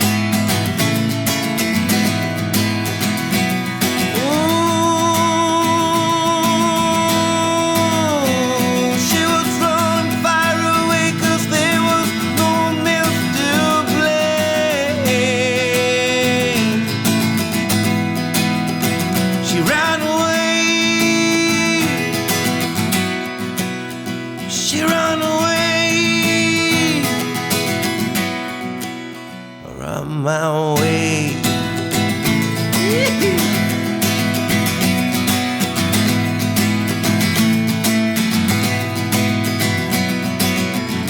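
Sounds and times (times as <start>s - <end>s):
strummed guitar chords: 0.0s - 41.0s.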